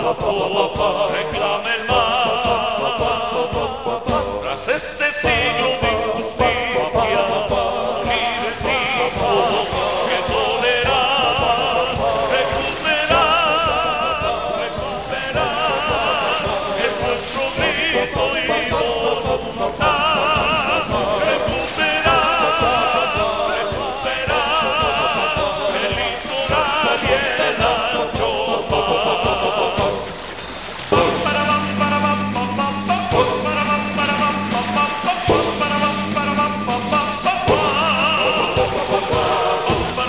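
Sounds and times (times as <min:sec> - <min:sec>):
person singing with vibrato: 0:00.0 - 0:40.0
steady drum beat: 0:00.0 - 0:40.0.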